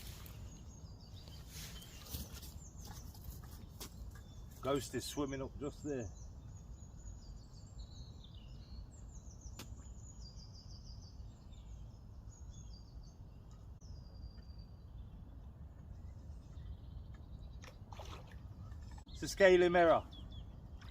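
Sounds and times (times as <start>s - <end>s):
small bird singing: 0.0s - 17.7s, 18.6s - 20.9s.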